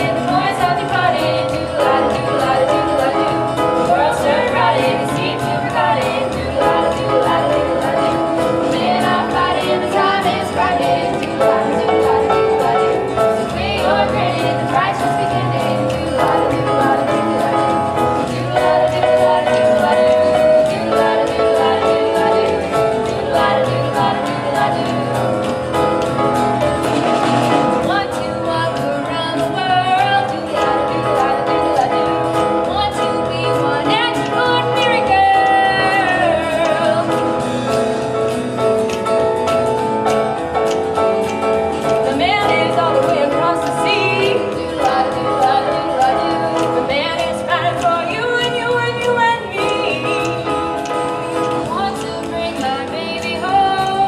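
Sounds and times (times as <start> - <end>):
person singing: 0.0 - 37.8, 40.6 - 54.0
instrumental accompaniment: 0.0 - 54.0.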